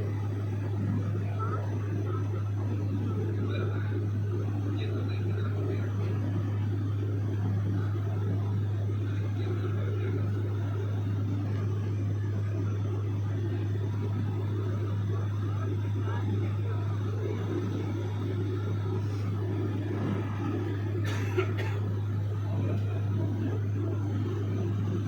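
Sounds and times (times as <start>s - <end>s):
small airplane engine droning: 0.0s - 25.0s.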